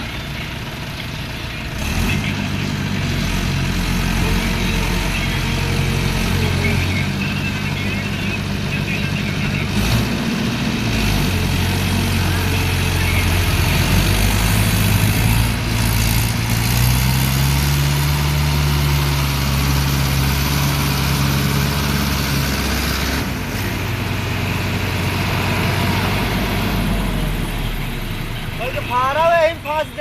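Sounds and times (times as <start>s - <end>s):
tractor diesel engine droning: 0.0s - 30.0s.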